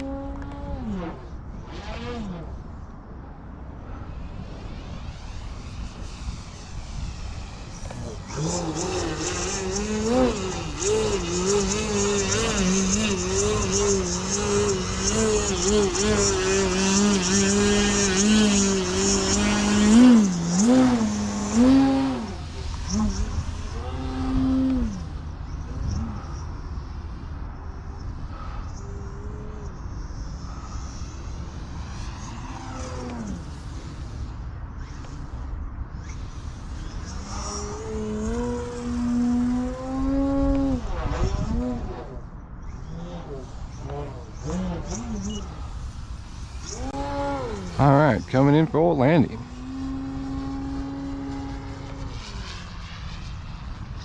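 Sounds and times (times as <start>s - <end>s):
low wind rumble: 0.0s - 54.0s
model airplane propeller whine: 0.0s - 54.0s.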